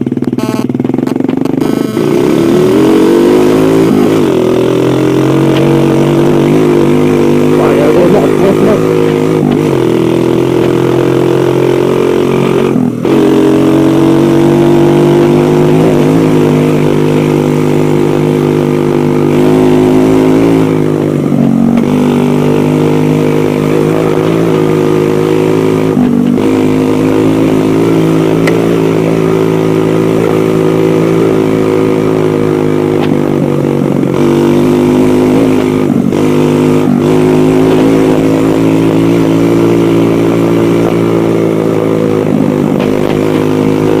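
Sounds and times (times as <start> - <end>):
dirt bike engine running: 0.0 - 44.0.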